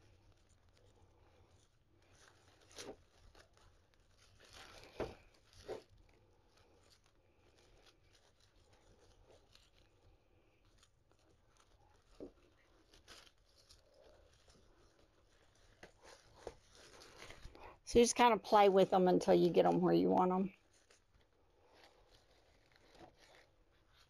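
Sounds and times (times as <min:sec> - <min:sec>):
rustling artificial leaves: 0:00.0 - 0:24.0.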